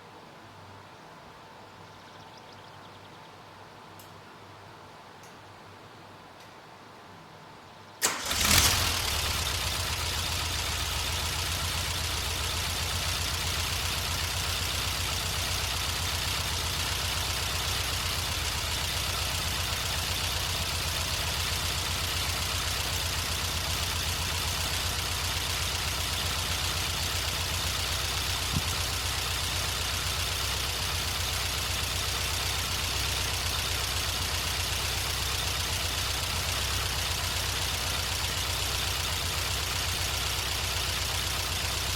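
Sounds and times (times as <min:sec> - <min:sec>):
car engine idling: 0:08.0 - 0:41.9.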